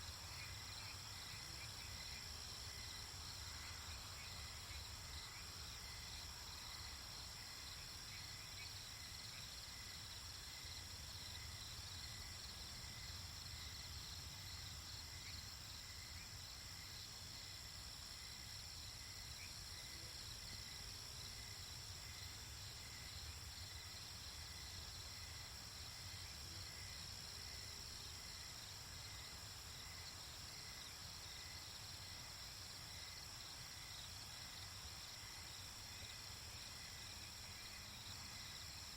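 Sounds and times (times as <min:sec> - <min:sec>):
crickets and insects trilling: 0:00.1 - 0:38.9.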